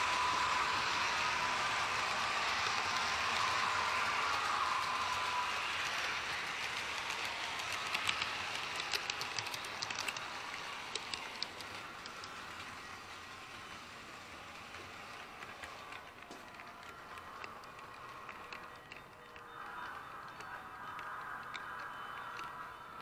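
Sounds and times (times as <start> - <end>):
model train wheels rolling on rail: 0.0 - 23.0.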